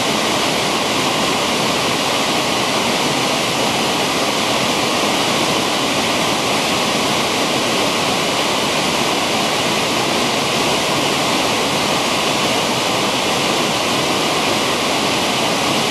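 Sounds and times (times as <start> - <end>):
water rushing over waterfall: 0.0 - 15.9.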